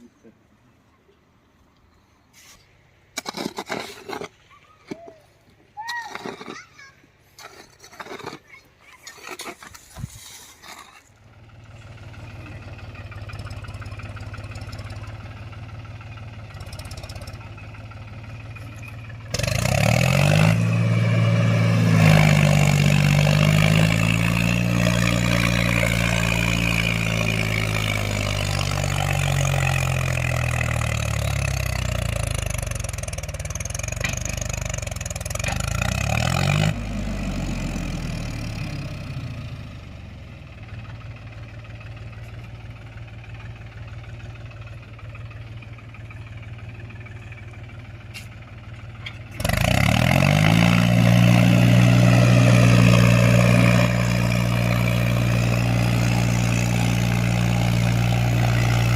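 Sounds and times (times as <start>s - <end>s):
tractor diesel engine revving: 11.3s - 58.9s.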